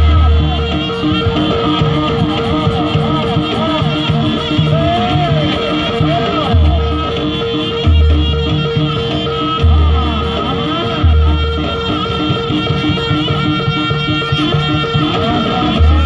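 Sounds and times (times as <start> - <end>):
drum beats: 0.0 - 16.0
reed melody sliding in pitch: 0.0 - 16.0.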